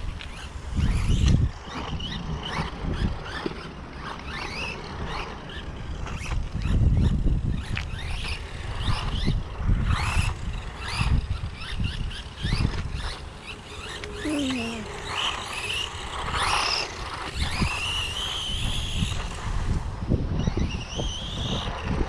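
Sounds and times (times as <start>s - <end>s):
rc truck motor whining: 0.0s - 22.0s.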